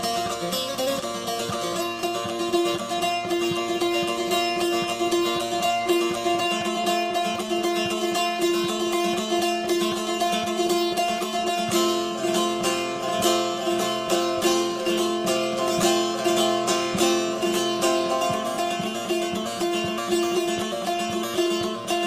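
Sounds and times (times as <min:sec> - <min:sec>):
plucked string instrument music: 0:00.0 - 0:22.0.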